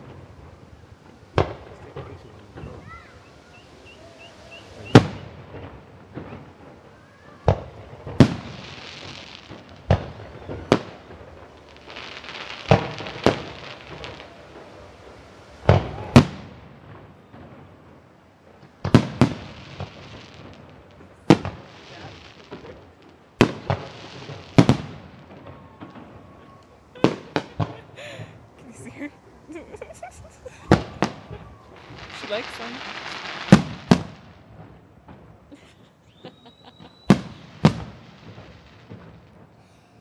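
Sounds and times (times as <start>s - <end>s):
crackling hiss of bursting shells: 0.0s - 40.0s
fireworks bangs: 0.0s - 40.0s.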